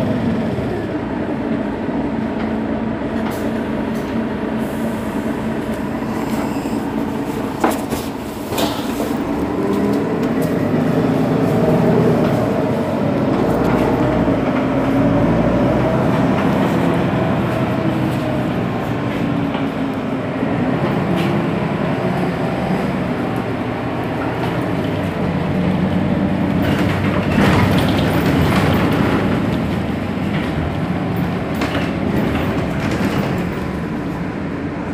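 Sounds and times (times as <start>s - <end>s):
diesel bus engine idling: 0.0s - 34.9s.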